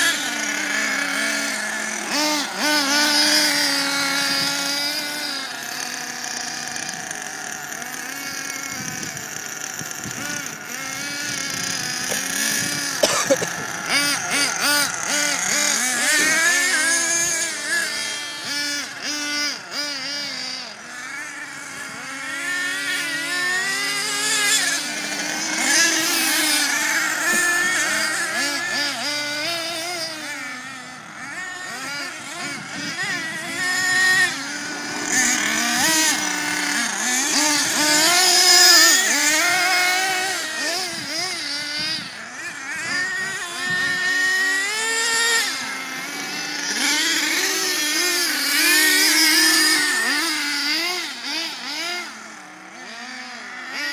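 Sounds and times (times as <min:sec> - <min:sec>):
small engines buzzing and revving: 0:00.0 - 0:53.9.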